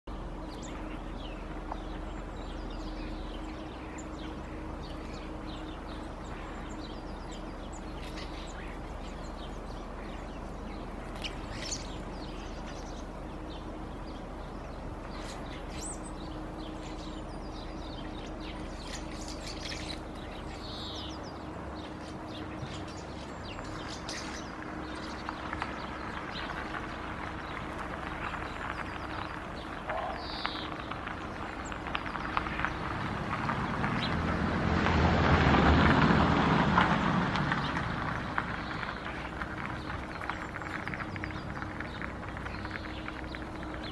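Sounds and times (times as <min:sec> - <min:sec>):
small birds chirping: 0:00.0 - 0:34.4, 0:36.8 - 0:43.9
steady background hum: 0:00.1 - 0:34.7, 0:35.6 - 0:43.9.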